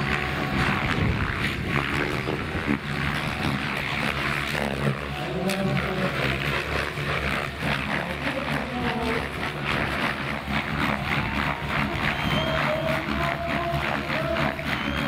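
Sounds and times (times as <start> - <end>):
electric motors whining: 0.0 - 15.0
rotor blades whooshing: 0.0 - 15.0.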